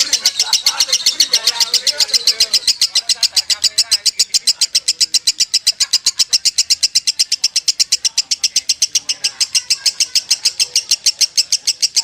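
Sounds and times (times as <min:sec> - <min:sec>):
lovebird chirping: 0:00.0 - 0:12.0.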